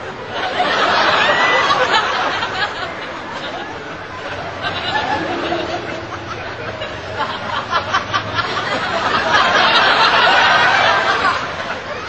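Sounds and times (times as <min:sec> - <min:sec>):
audience laughter: 0:00.0 - 0:12.0
crowd chatter: 0:00.0 - 0:12.0.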